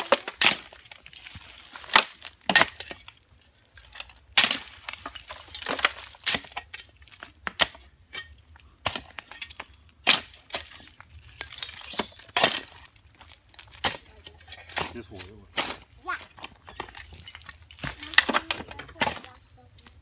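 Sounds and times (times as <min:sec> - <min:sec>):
debris knocking and clinking: 0:00.0 - 0:20.0.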